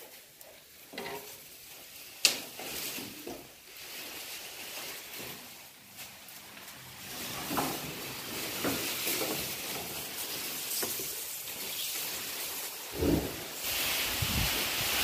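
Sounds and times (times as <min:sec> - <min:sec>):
rustling of green fodder: 0:00.0 - 0:15.0
steady hiss: 0:00.0 - 0:15.0.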